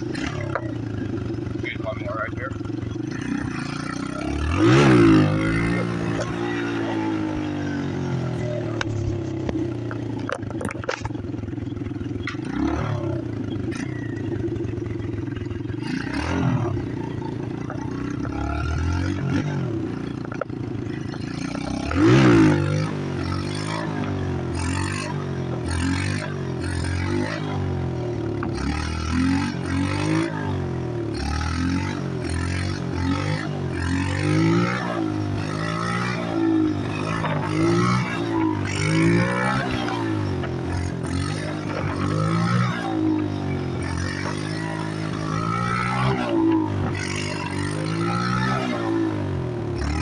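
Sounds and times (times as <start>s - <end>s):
motorbike engine revving: 0.0s - 50.0s.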